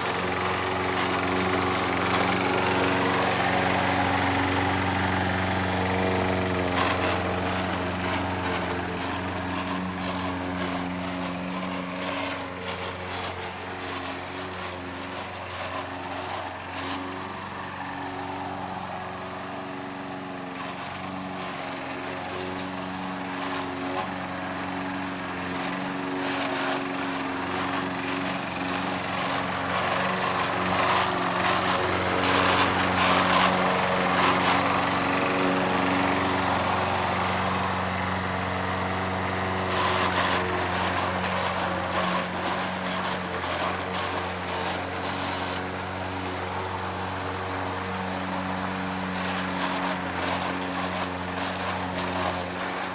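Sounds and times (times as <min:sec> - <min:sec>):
lawn mower running: 0:00.0 - 0:52.9.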